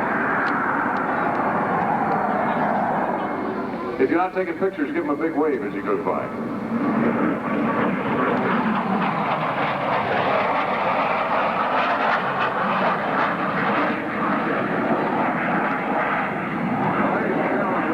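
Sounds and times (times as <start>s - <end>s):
jet engines whining: 0.0s - 17.9s.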